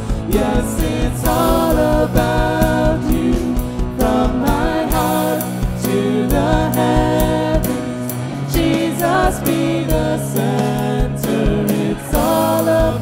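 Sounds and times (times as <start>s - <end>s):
keyboard and bass chords: 0.0s - 13.0s
steady drum beat: 0.0s - 13.0s
wordless singing: 0.0s - 13.0s.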